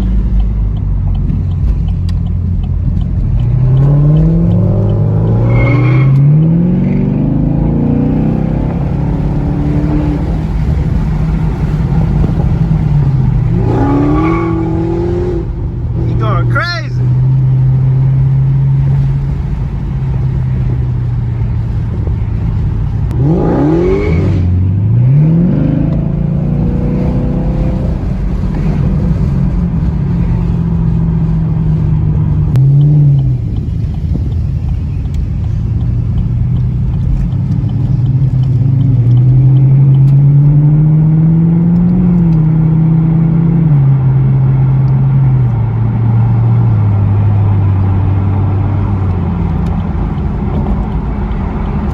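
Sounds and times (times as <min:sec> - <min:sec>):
car engine revving: 0:00.0 - 0:51.9
car engines running: 0:00.0 - 0:51.9.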